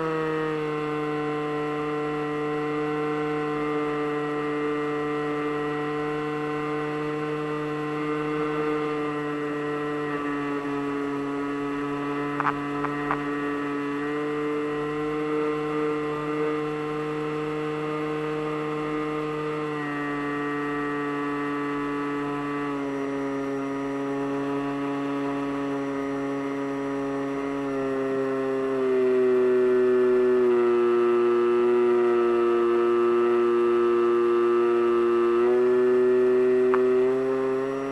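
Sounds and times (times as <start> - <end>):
model aircraft motor drone: 0.0 - 37.9.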